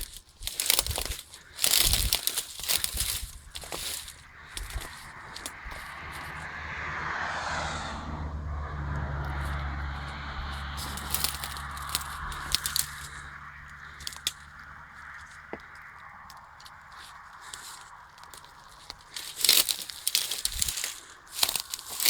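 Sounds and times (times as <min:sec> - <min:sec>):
sharp clicks and crackles: 0:00.0 - 0:06.4, 0:08.9 - 0:22.0
excavator diesel engine humming: 0:00.0 - 0:22.0.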